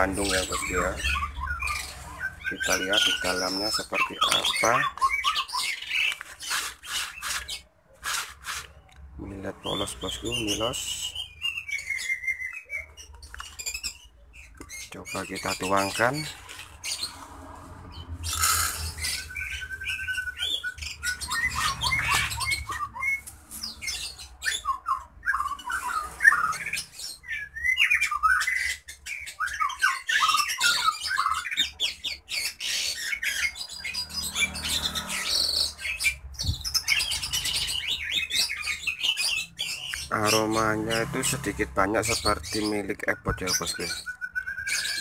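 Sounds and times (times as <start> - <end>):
birds chirping and squawking: 0.0 - 45.0.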